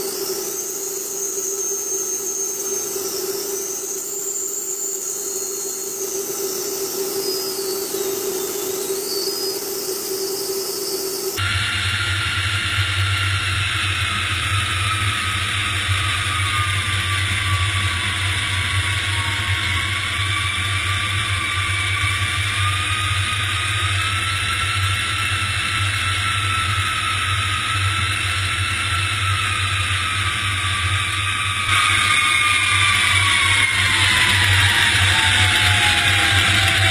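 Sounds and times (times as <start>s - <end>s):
jet engines droning: 0.0s - 36.9s.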